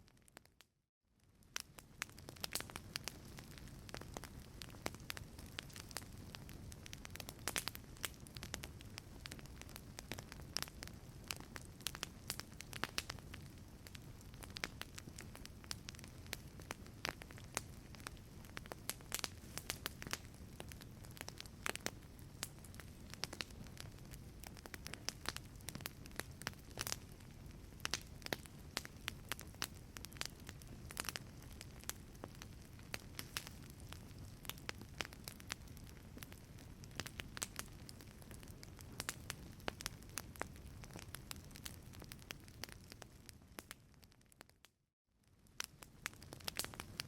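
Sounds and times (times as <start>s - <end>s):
wood fire crackling: 1.2s - 44.5s, 45.2s - 47.0s.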